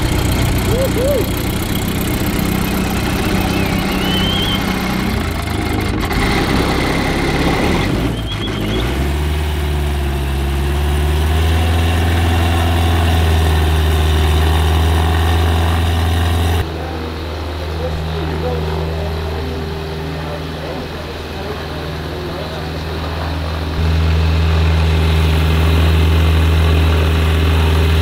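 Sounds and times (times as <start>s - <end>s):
light aircraft engine running: 0.0s - 28.0s.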